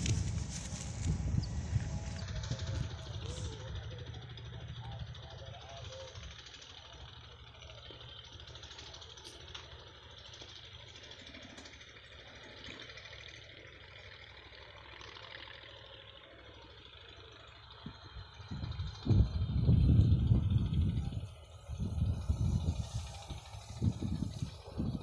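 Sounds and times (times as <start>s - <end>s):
distant engine rumble: 0.0s - 25.0s.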